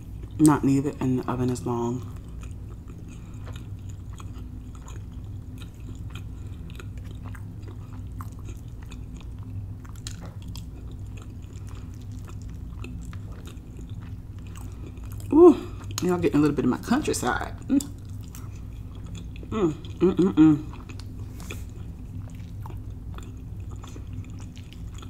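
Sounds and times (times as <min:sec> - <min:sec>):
chewing and mouth sounds: 0:00.0 - 0:25.0
steady low hum: 0:00.0 - 0:25.0.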